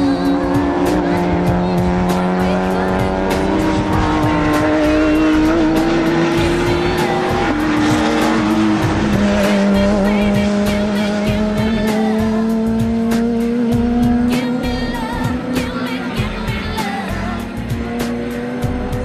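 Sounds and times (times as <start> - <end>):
background music with steady beat: 0.0 - 19.0
racing car engines: 0.0 - 19.0.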